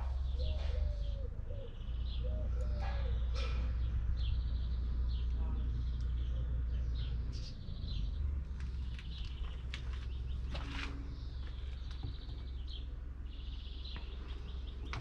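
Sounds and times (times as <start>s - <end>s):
low steady rumble: 0.0s - 15.0s
small birds chirping: 0.0s - 15.0s.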